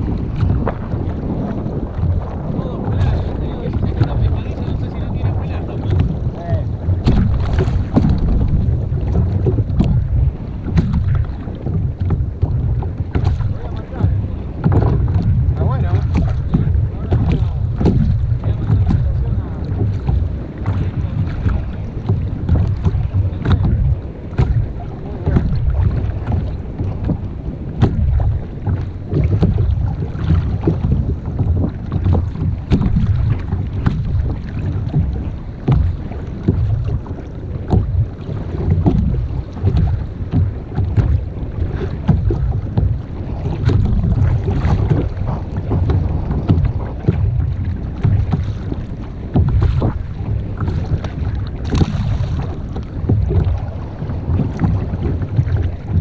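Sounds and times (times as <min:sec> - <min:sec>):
water splashing against hull: 0:00.0 - 0:56.0
wind buffeting microphone: 0:00.0 - 0:56.0.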